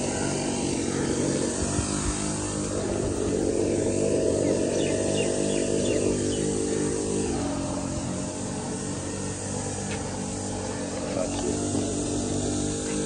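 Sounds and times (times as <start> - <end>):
machine engine running: 0.0 - 13.0.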